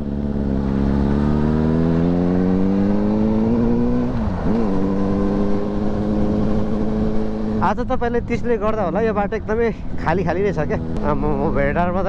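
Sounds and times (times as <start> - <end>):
motorcycle engine revving: 0.0 - 8.0, 9.9 - 12.0.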